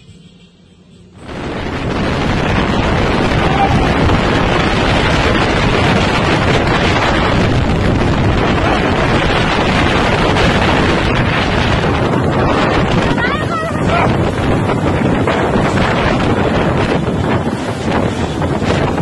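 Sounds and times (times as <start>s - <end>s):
wind blasting microphone: 1.1s - 19.0s.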